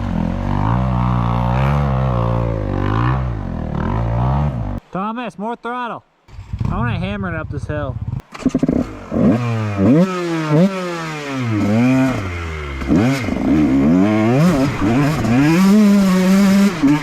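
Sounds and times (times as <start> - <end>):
dirt bike engine revving: 0.0 - 4.8, 8.0 - 17.0.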